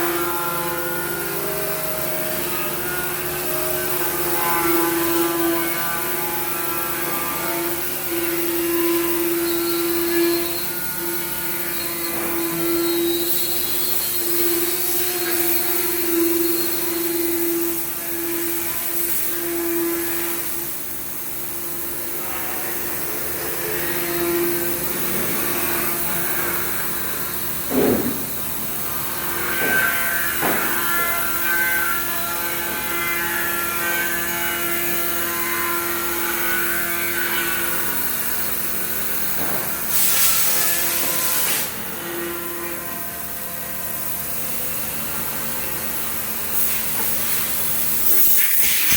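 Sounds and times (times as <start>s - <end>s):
machine hiss: 0.0s - 48.9s
cutting spindle whining: 0.1s - 48.9s.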